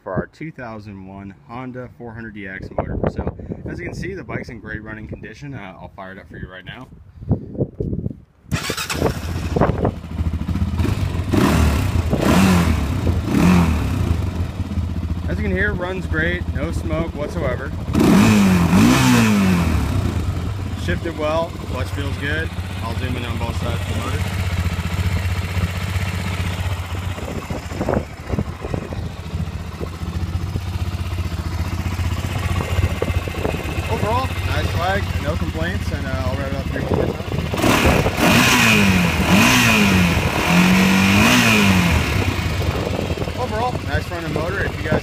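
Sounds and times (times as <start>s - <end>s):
single-cylinder engine running: 8.5s - 45.0s.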